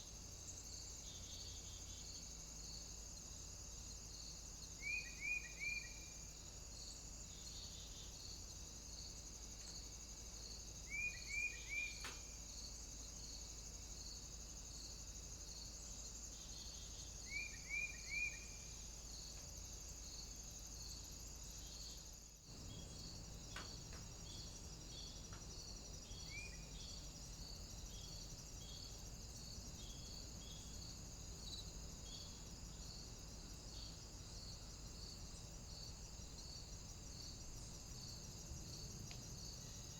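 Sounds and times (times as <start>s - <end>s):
cicada and insect chorus: 0.0s - 39.9s.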